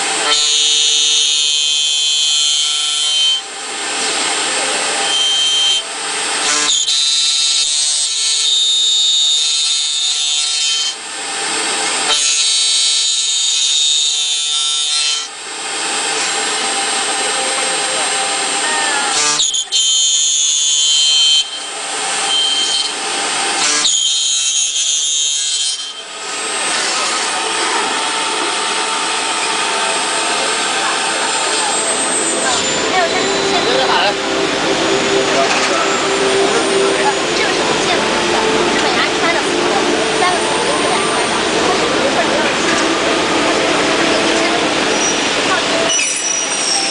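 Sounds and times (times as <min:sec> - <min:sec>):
high-pitched cutting screech: 0:00.0 - 0:46.9
router spindle milling aluminium: 0:00.0 - 0:46.9.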